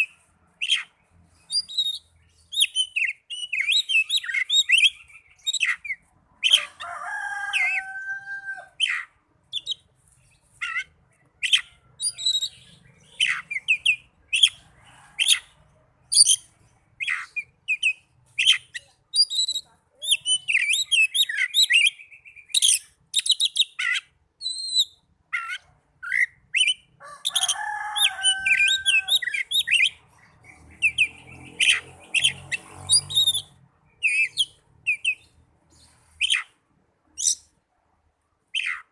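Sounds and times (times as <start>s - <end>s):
bird singing: 0.0s - 37.6s, 38.4s - 38.9s.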